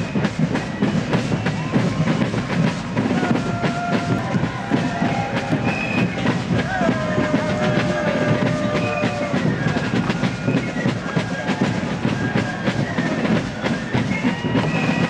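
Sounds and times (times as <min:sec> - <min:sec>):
marching drums clattering: 0:00.0 - 0:15.0.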